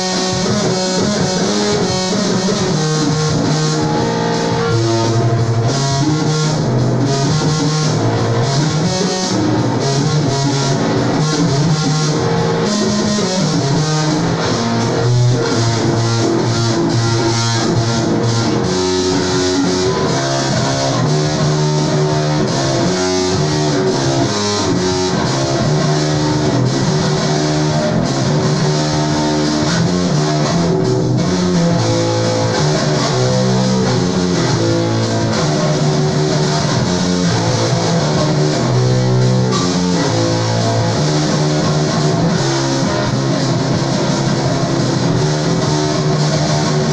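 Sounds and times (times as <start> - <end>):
bass guitar notes: 0.0 - 46.9
electric guitar rock music: 0.0 - 46.9.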